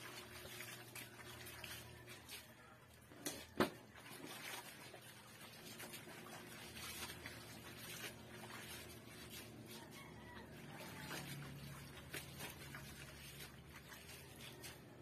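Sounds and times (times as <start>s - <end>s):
water splashes and drips: 0.0s - 15.0s
wet fabric scrubbed and wrung: 0.0s - 15.0s.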